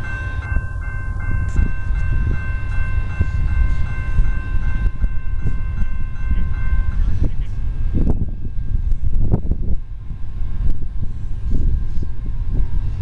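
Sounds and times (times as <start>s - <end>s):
railroad crossing bell ringing: 0.0s - 10.5s
low rumble: 0.0s - 13.0s.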